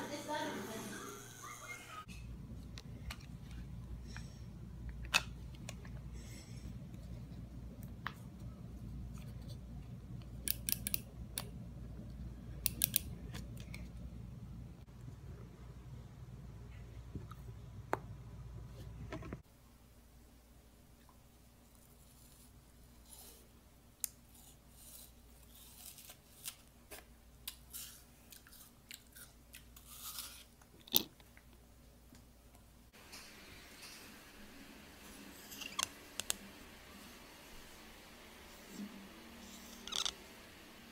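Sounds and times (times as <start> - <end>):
low room hum: 0.0 - 40.9.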